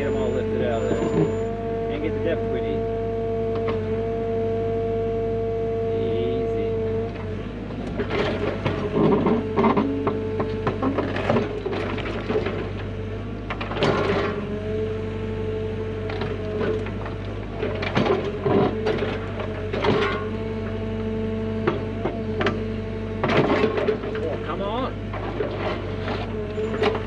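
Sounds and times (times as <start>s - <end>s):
excavator engine hum: 0.0s - 27.0s
hydraulic whine: 0.0s - 27.0s.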